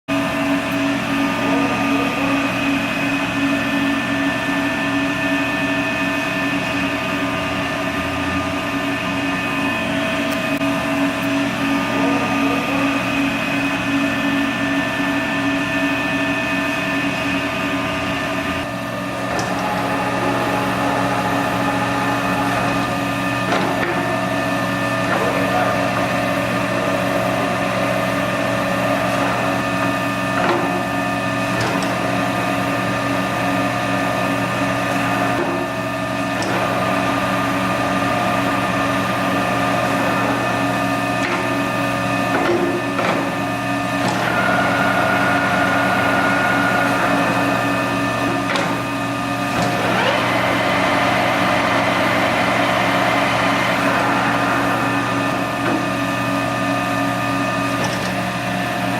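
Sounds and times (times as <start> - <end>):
lathe running with whining gears: 0.1 - 58.9.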